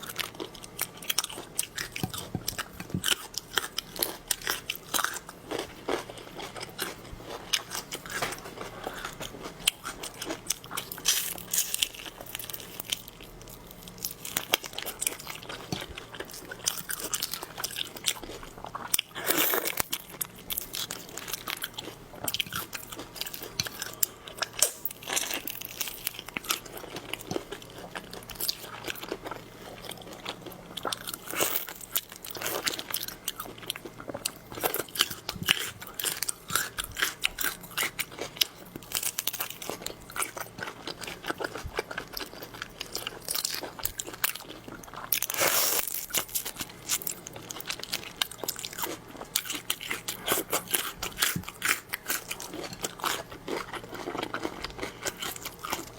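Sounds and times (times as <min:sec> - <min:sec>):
crunchy chewing and biting: 0:00.0 - 0:55.9.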